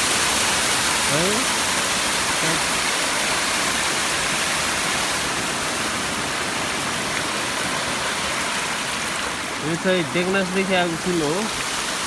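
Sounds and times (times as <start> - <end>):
floodwater rushing across road: 0.0 - 12.0.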